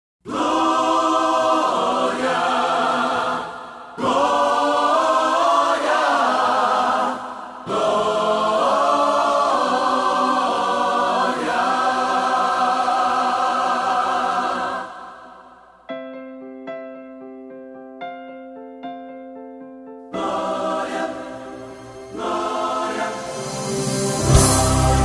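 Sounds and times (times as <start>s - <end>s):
gospel choir singing held chords: 0.2s - 15.9s, 20.1s - 25.0s.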